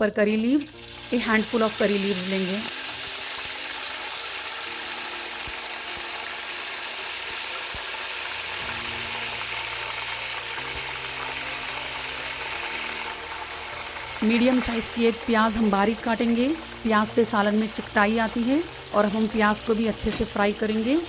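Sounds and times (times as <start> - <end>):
seeds sizzling in hot oil: 0.0 - 21.0.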